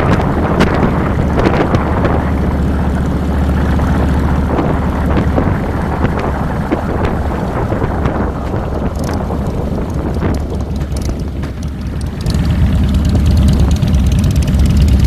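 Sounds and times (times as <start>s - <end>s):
wind buffeting microphone: 0.0s - 13.8s
motorcycle engine running: 0.0s - 15.0s.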